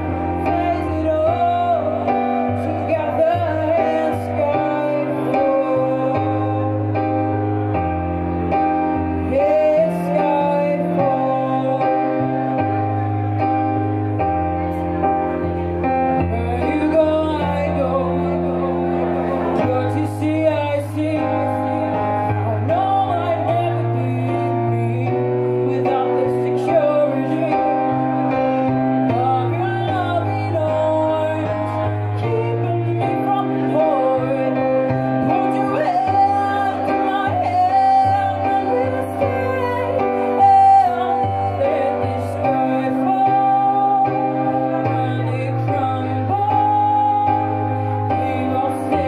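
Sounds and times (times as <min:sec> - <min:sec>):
woman singing slow song: 0:00.0 - 0:13.9, 0:14.6 - 0:49.0
electric keyboard chords: 0:00.0 - 0:49.0.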